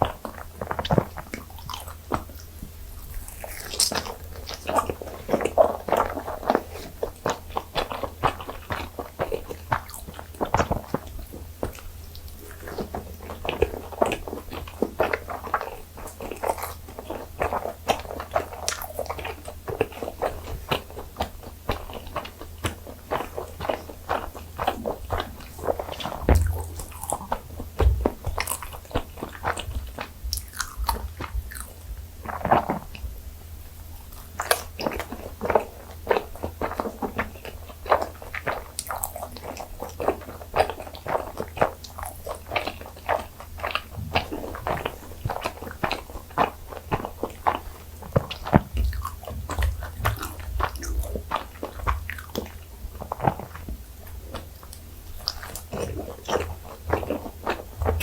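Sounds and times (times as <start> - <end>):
chewing and biting rice cakes: 0.0 - 58.0.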